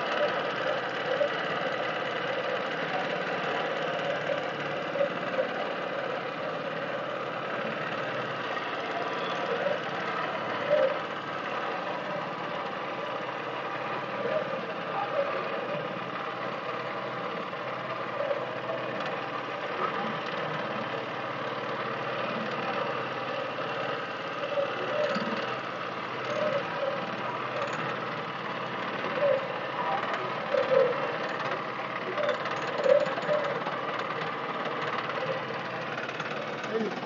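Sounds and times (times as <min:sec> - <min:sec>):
boat motor running: 0:00.0 - 0:37.0.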